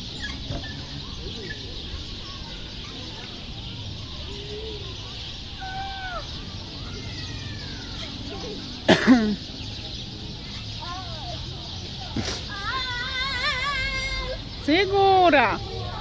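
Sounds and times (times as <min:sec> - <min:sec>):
background bird chorus hiss: 0:00.0 - 0:16.0.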